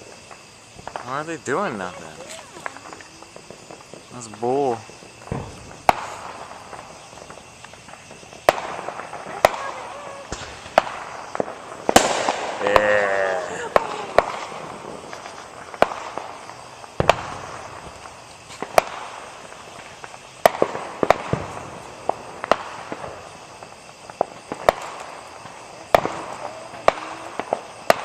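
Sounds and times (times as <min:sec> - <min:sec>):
fireworks bangs and pops: 0:00.0 - 0:28.0
steady background hiss: 0:00.0 - 0:28.0.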